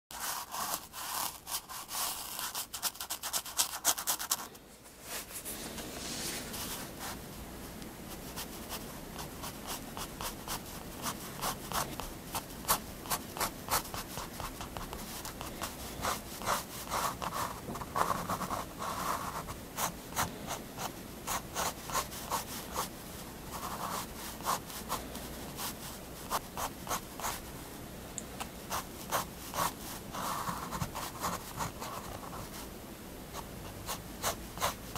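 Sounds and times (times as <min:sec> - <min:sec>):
pen scratching on paper: 0:00.1 - 0:04.5, 0:08.1 - 0:22.9, 0:23.5 - 0:25.0, 0:25.6 - 0:27.4, 0:28.7 - 0:32.7, 0:33.4 - 0:34.9.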